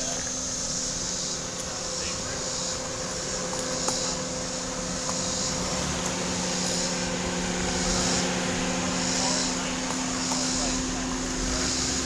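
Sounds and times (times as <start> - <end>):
high hiss: 0.0 - 12.0
vehicle engine humming: 0.0 - 12.0.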